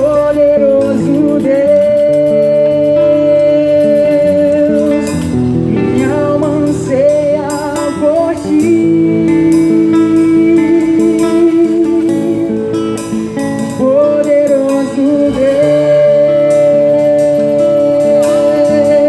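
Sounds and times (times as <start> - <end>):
person singing long notes: 0.0 - 12.9, 13.6 - 19.0
guitar and keyboard chords: 0.0 - 19.0.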